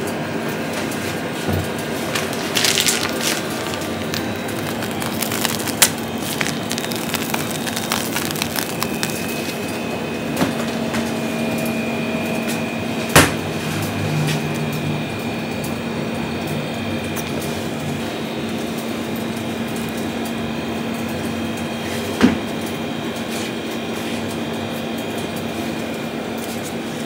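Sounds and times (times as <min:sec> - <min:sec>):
kitchen machine hum and hiss: 0:00.0 - 0:06.4, 0:10.4 - 0:27.0.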